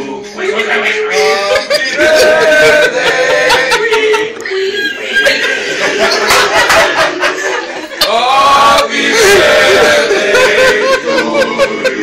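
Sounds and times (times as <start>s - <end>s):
people laughing: 0.0s - 12.0s
people talking: 0.0s - 12.0s.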